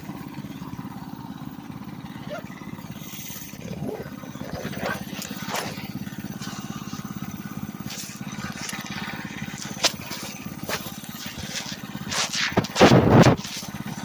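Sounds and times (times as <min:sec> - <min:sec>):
minibike engine running: 0:00.0 - 0:14.0.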